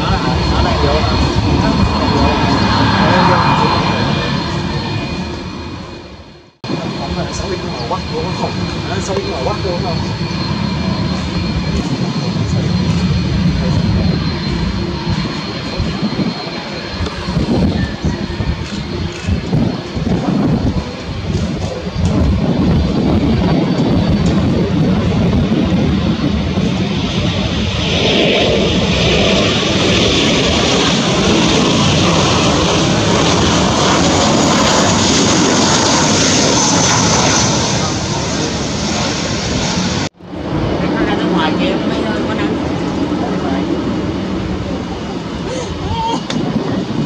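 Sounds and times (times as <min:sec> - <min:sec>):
high engine whine: 0:00.0 - 0:47.0
jet engines rumbling: 0:00.0 - 0:47.0.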